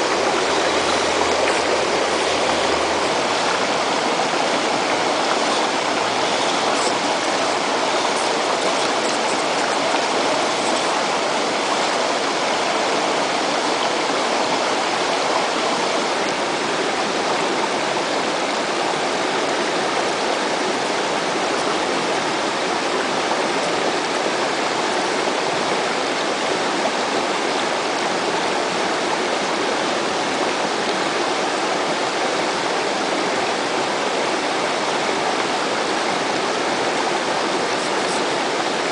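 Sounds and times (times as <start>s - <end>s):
water rushing over boulders: 0.0s - 38.9s.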